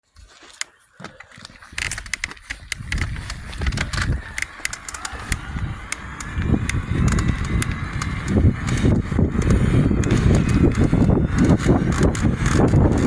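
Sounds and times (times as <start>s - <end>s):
bicycle clicks and knocks: 0.6s - 13.0s
wind rumbling on microphone: 1.6s - 13.0s.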